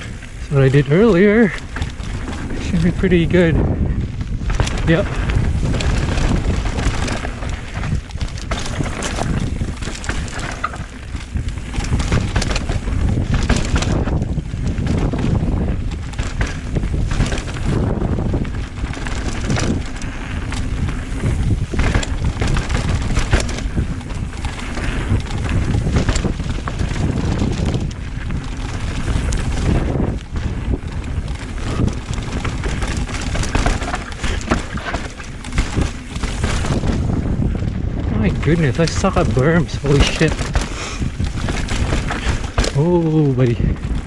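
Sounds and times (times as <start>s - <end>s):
bike rattling over bumps: 0.0s - 44.0s
bike tyres rolling on dirt: 0.0s - 44.0s
wind buffeting microphone: 0.0s - 44.0s.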